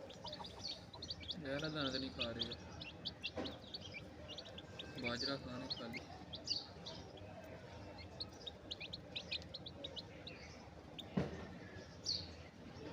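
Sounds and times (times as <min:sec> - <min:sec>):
chicks peeping: 0:00.0 - 0:12.4.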